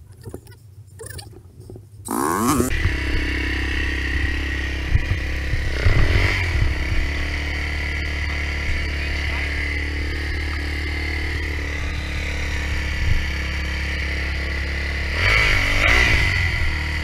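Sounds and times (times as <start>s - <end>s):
dirt bike engine starting and revving: 2.1s - 17.0s.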